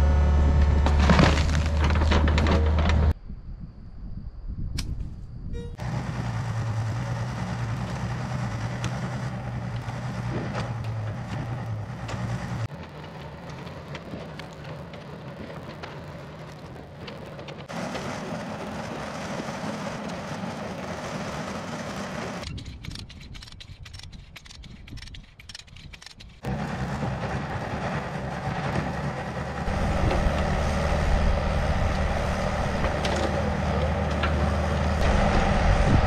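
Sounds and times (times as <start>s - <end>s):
diesel engine under load: 0.0s - 3.2s, 5.7s - 22.5s, 26.4s - 36.0s.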